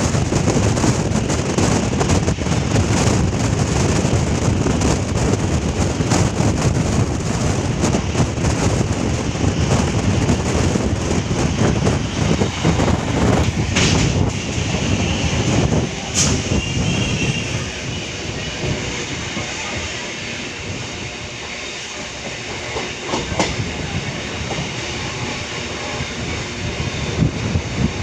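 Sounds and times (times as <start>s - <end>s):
train wheels rumbling on track: 0.0s - 28.0s
rail joint clicks: 0.2s - 17.8s, 21.8s - 26.8s.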